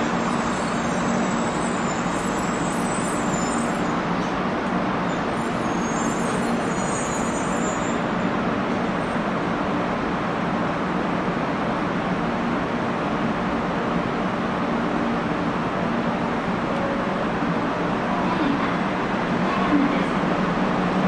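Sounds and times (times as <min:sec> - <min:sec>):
train rolling into station: 0:00.0 - 0:21.0.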